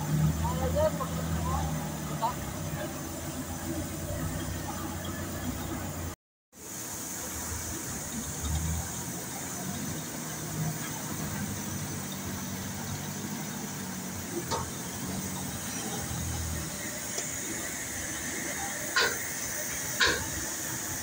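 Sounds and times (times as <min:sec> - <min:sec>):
forklift engine humming: 0:00.0 - 0:06.2, 0:07.1 - 0:21.0
constant hiss: 0:00.0 - 0:21.0.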